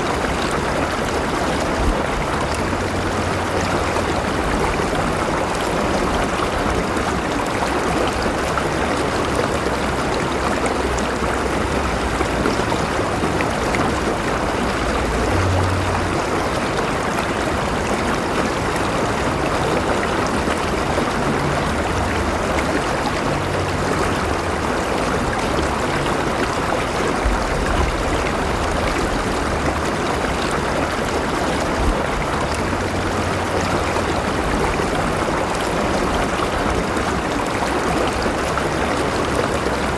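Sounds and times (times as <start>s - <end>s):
low rumble of water: 0.0s - 39.9s
river water rushing over rocks: 0.0s - 39.9s.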